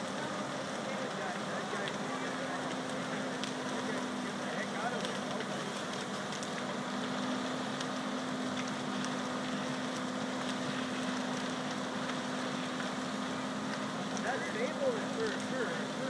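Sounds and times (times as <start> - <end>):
fire engine droning: 0.0 - 16.0.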